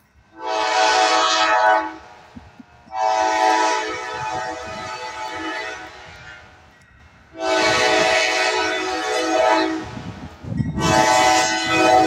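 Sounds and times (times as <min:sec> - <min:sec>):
locomotive air horn blasts: 0:00.3 - 0:02.3, 0:02.9 - 0:06.5, 0:07.3 - 0:12.0.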